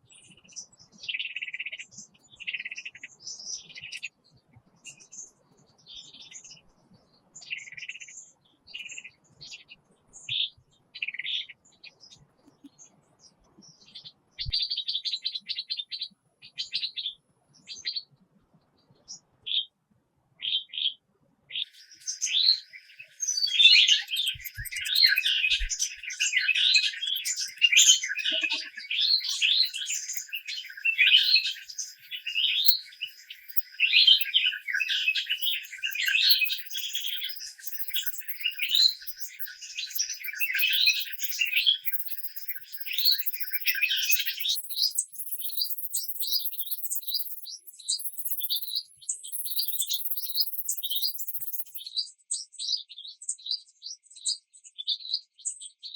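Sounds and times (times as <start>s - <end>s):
birds singing fast chirps: 0.0s - 18.2s, 20.4s - 55.9s.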